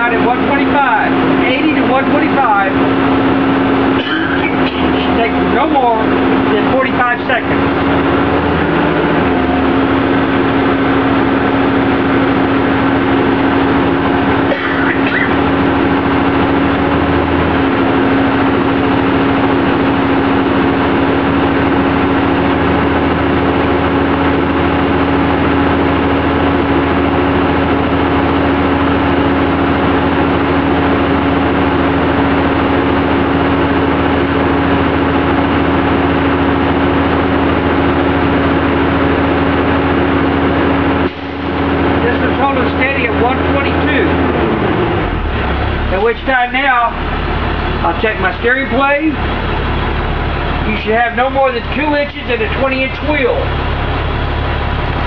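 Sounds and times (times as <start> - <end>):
air compressor running: 0.0 - 55.0
diesel engine idling: 0.0 - 55.0.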